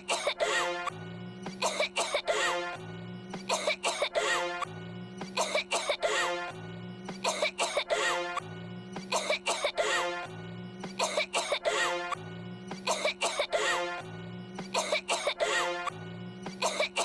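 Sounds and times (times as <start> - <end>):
coughing: 0.0 - 17.0.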